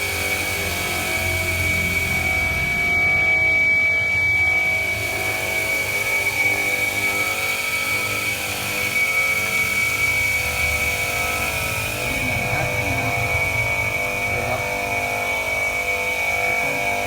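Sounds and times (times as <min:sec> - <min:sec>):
wet tile saw whining: 0:00.0 - 0:17.0.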